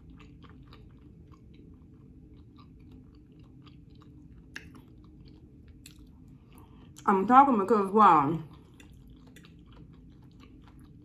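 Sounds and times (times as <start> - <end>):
person chewing food: 0.0 - 7.1, 8.4 - 11.0
low steady hum: 0.0 - 11.0.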